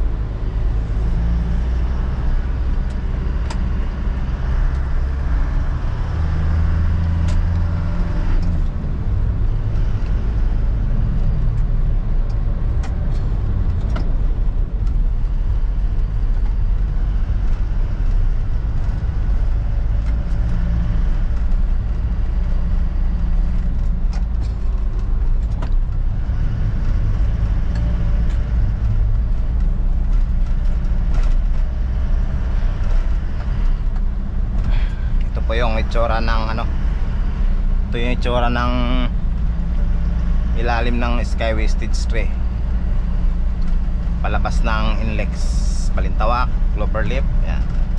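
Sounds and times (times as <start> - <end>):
diesel engine running: 0.0 - 47.9
road and tyre noise: 0.0 - 47.9.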